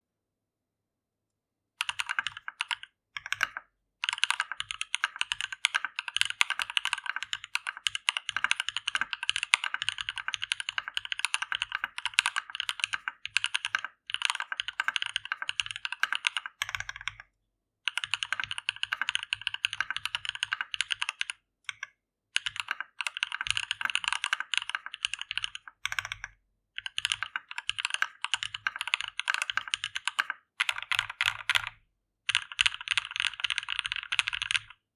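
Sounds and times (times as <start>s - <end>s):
fast typing on mechanical keyboard: 1.8s - 17.2s, 17.9s - 34.8s.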